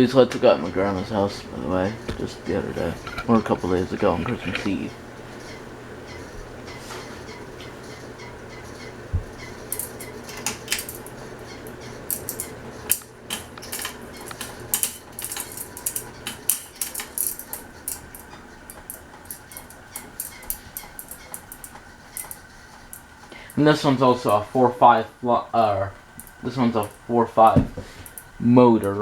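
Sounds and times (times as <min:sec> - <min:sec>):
ceiling fan low hum: 0:00.0 - 0:29.0
ceiling fan metallic clicks: 0:00.0 - 0:29.0.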